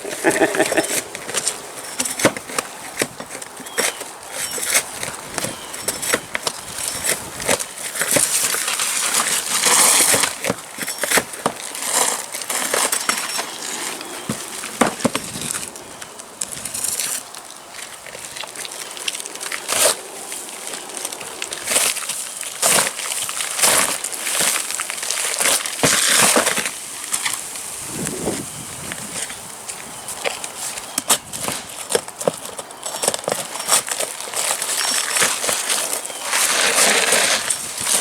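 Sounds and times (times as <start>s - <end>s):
crunching and sharp cracks: 0.0s - 27.6s, 28.9s - 38.0s
shovels scraping shingles: 0.0s - 38.0s.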